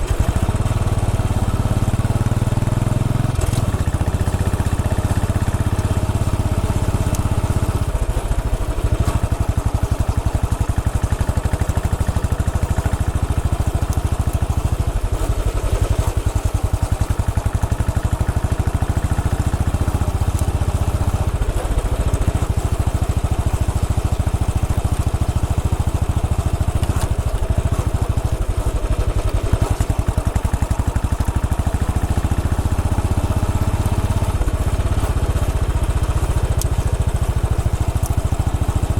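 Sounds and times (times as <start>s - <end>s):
motorcycle engine thumping: 0.0s - 38.9s.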